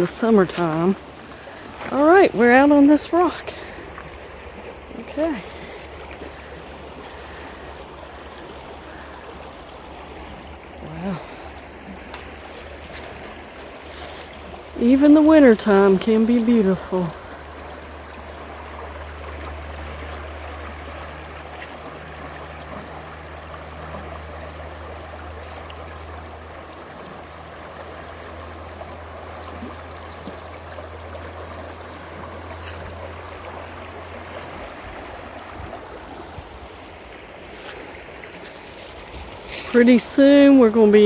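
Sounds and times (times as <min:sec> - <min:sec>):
low steady rumble: 0:00.0 - 0:41.0
water rushing over rocks: 0:00.0 - 0:41.0.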